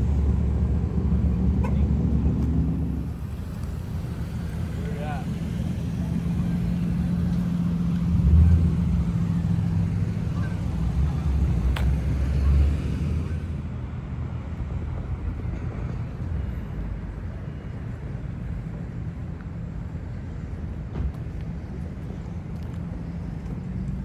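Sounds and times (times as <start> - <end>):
car engines rumbling: 0.0 - 24.0.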